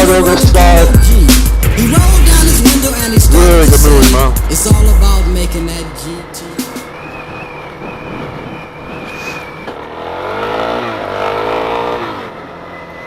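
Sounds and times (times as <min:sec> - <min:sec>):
road and wind noise: 0:00.0 - 0:13.0
motorcycle engine revving: 0:02.2 - 0:13.0.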